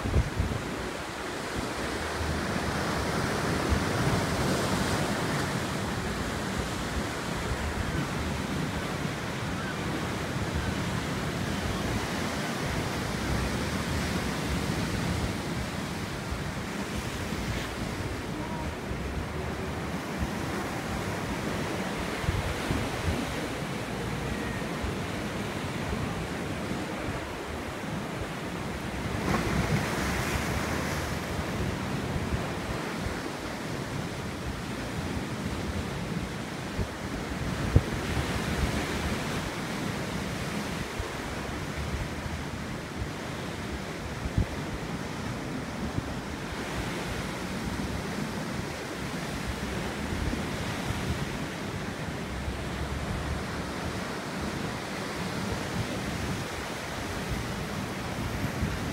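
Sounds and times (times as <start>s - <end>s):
wind on microphone: 0.0s - 58.9s.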